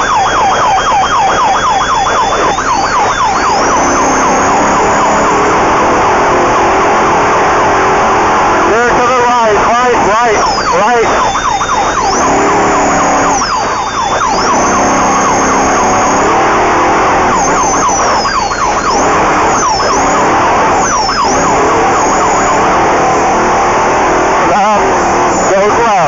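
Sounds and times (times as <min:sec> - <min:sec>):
high gliding whine: 0:00.0 - 0:26.0
race vehicle engine revving: 0:02.6 - 0:26.0.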